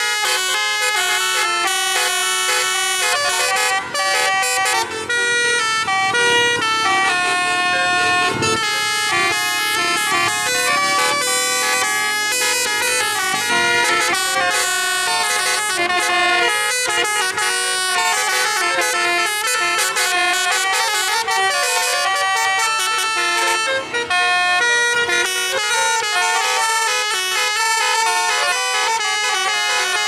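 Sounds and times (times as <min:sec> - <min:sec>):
musical air horns playing melody: 0:00.0 - 0:30.0.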